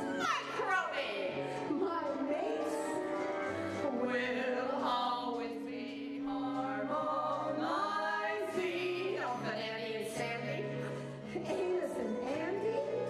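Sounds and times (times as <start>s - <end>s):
instrumental accompaniment: 0.0s - 13.0s
women singing a duet: 0.0s - 13.0s.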